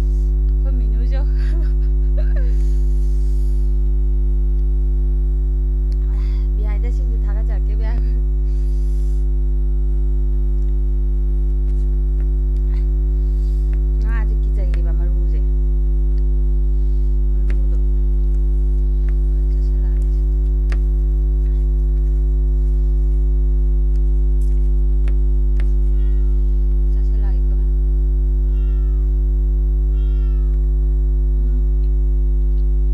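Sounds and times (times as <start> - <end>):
loud electrical hum: 0.0 - 32.9.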